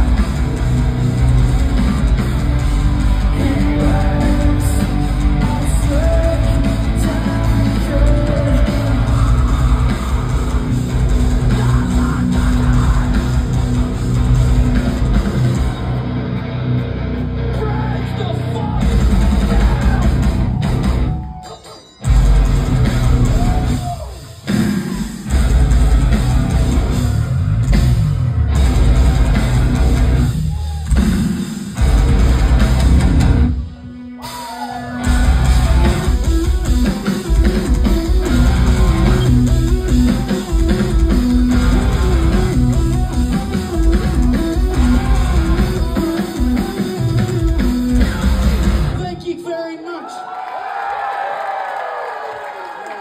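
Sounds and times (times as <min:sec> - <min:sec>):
metal band playing live: 0:00.0 - 0:49.5.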